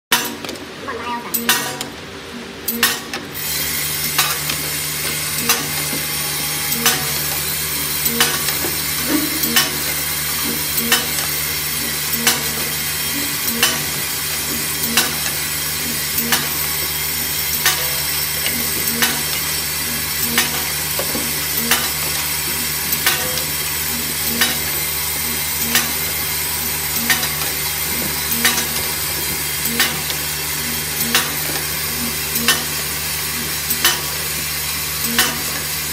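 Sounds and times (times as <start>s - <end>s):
sharp machine clicks: 1.3s - 5.9s, 6.7s - 35.9s
machine hissing and humming: 1.3s - 35.9s.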